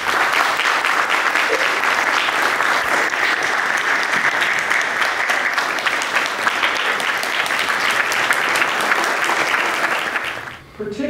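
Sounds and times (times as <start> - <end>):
audience clapping: 0.0 - 10.7.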